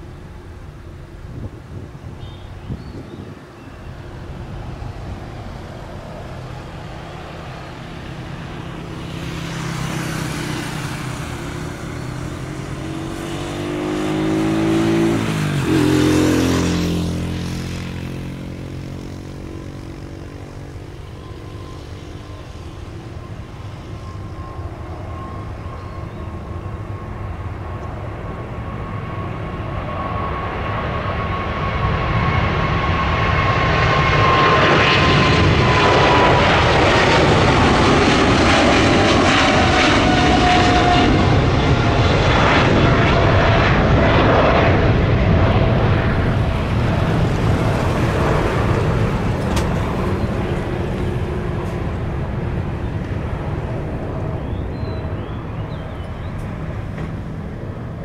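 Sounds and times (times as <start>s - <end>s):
jet engine high whine: 0.0s - 58.0s
jet engines roaring on takeoff: 0.0s - 58.0s.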